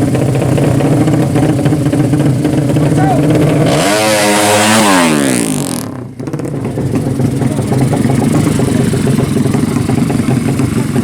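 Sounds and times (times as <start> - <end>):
motorcycle engine idling: 0.0 - 3.7, 5.8 - 11.0
motorcycle engine passing: 0.0 - 11.0.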